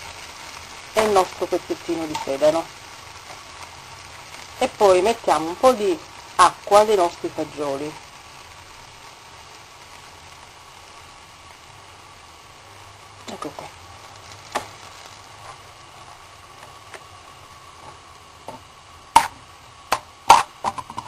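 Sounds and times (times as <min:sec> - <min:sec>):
sauce sizzling faintly in pan: 0:00.0 - 0:21.0.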